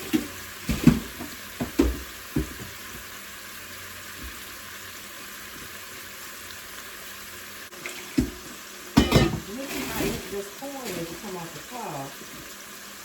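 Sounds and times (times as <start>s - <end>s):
meatballs sizzling in oil: 0.0s - 13.0s.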